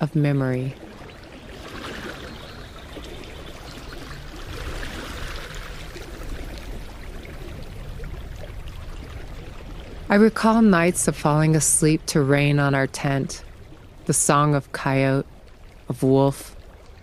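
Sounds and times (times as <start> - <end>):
creek water rushing over cobbles: 0.0 - 17.0.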